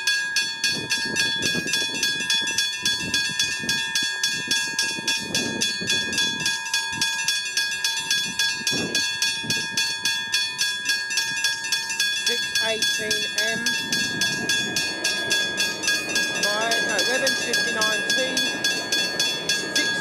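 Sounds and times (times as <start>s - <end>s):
level-crossing bell ringing: 0.0s - 20.0s.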